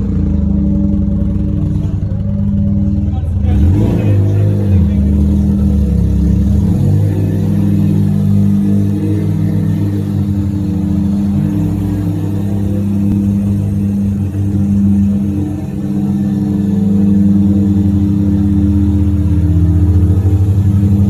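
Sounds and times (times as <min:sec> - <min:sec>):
rotary engine droning: 0:00.0 - 0:21.0.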